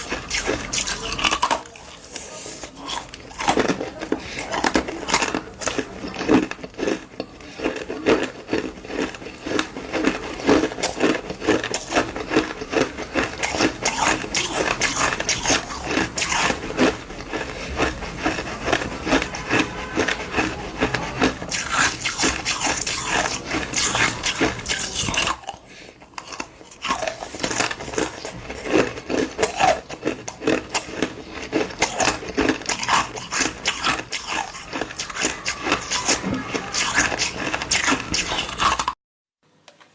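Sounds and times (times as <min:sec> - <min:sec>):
ice being chewed: 0:00.0 - 0:39.0.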